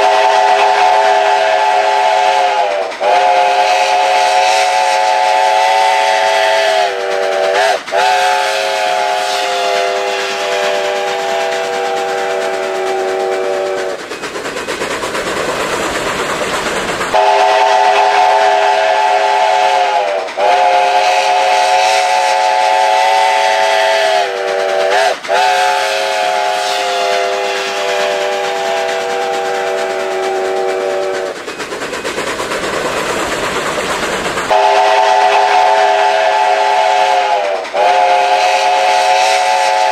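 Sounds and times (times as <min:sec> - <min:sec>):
steam locomotive chime whistle: 0:00.0 - 0:14.0, 0:17.1 - 0:31.7, 0:34.5 - 0:39.9
steam hissing: 0:00.0 - 0:39.9.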